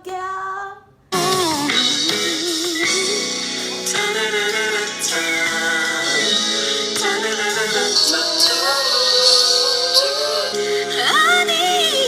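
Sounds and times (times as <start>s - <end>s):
woman singing with vibrato: 0.0s - 12.0s
band backing: 1.1s - 12.0s.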